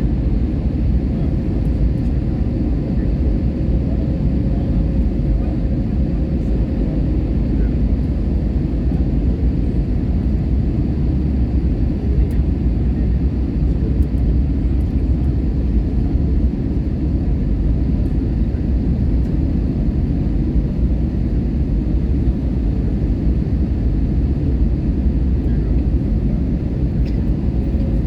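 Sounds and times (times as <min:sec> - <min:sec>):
airliner rumble: 0:00.0 - 0:28.0.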